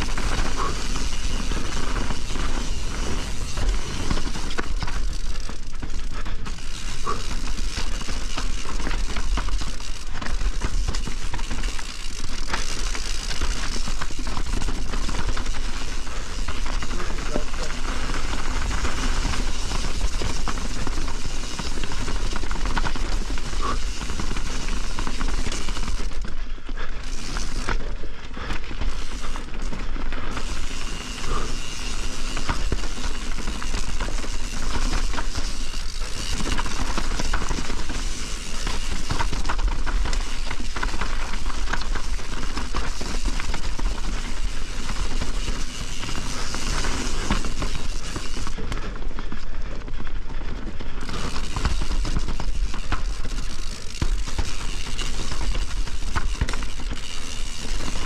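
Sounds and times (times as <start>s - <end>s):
chain and frame clatter: 0.0s - 48.6s, 50.9s - 58.0s
bike tyres rattling over rocks: 0.0s - 58.0s.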